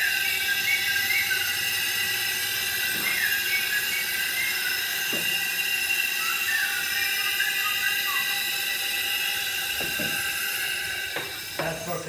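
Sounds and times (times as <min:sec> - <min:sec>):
vehicle lift hissing: 0:00.0 - 0:12.0.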